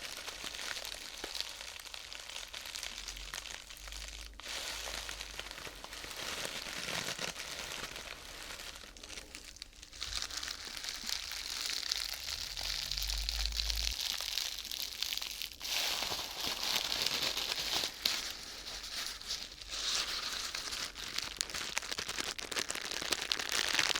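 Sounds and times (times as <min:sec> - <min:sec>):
crinkling of thin sheet: 0:00.0 - 0:23.9.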